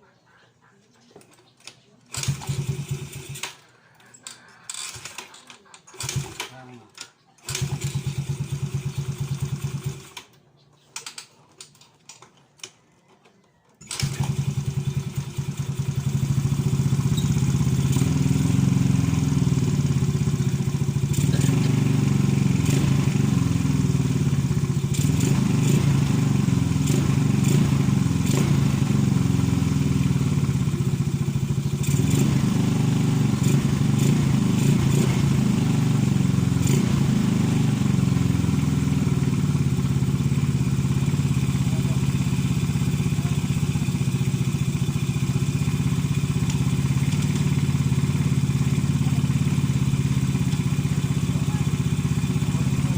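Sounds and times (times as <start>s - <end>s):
scooter engine running: 2.1s - 3.6s, 6.0s - 6.8s, 7.4s - 10.3s, 13.8s - 52.9s.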